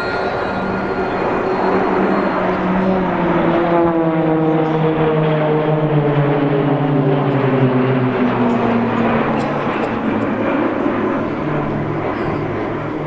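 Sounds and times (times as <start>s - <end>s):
propeller planes droning overhead: 0.0s - 13.0s.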